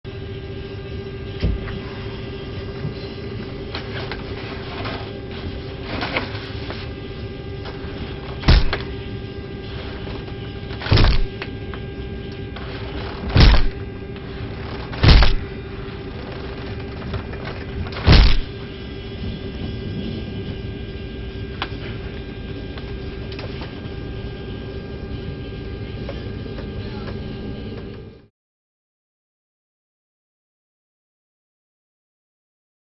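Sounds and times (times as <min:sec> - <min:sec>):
airplane cabin hum: 0:00.0 - 0:28.3.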